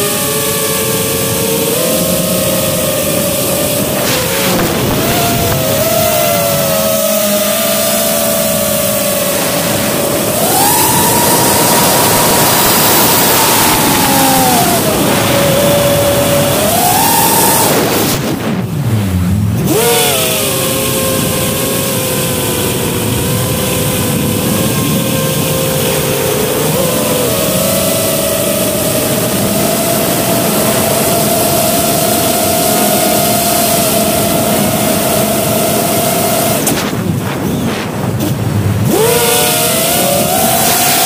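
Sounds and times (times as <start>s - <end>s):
quadcopter motors whining: 0.0s - 41.0s.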